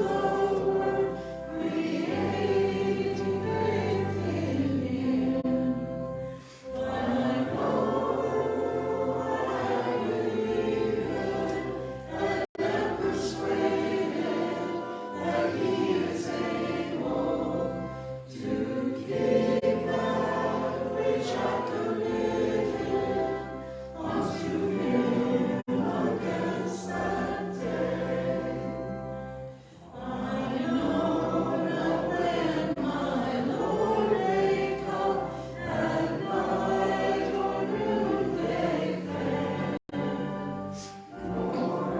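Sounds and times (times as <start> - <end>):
group singing a hymn: 0.0 - 41.9.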